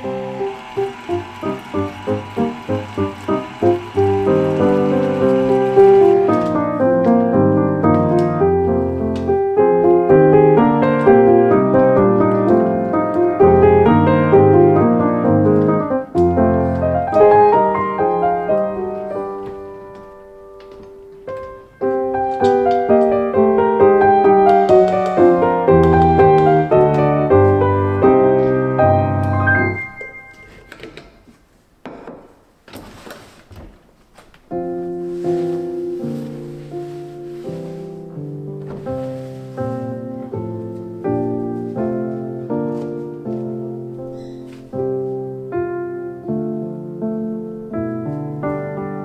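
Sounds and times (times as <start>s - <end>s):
gentle piano music: 0.0s - 31.2s, 34.5s - 49.0s.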